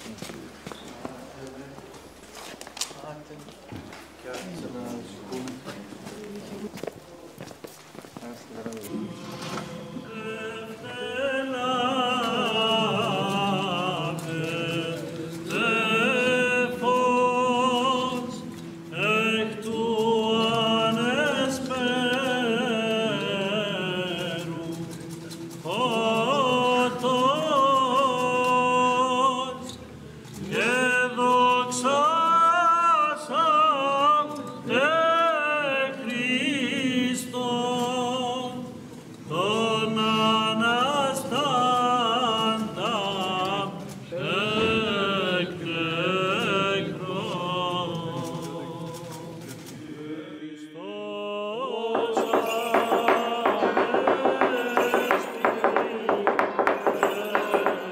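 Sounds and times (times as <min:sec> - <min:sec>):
men chanting: 0:08.9 - 0:29.7, 0:30.4 - 0:57.9.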